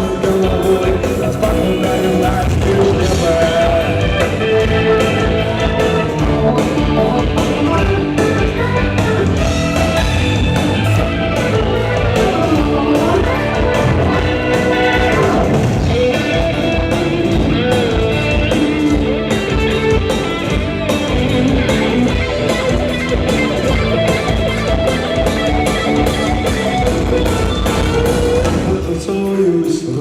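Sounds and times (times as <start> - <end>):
steady drum beat: 0.0 - 29.5
rock band playing: 0.0 - 30.0.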